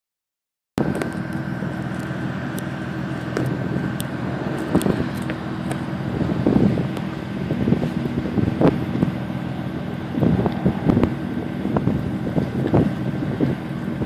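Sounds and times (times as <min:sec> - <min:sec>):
car engine idling: 0:00.8 - 0:14.0.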